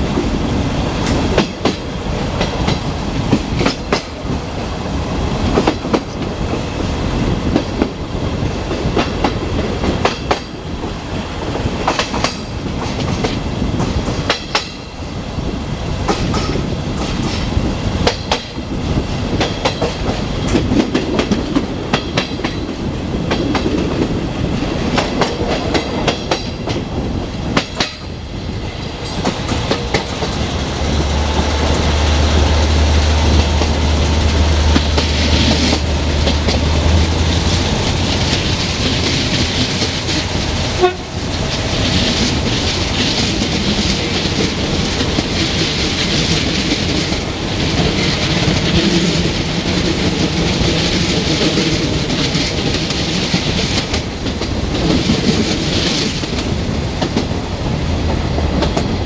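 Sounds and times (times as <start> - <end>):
wheels clicking over rail joints: 0.0 - 15.0, 16.0 - 59.0
train wheels rolling on rail: 0.0 - 59.0.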